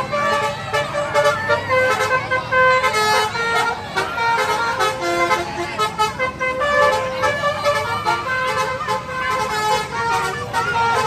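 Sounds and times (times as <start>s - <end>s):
crowd voices: 0.0s - 11.0s
musical air horn playing tune: 0.0s - 11.0s.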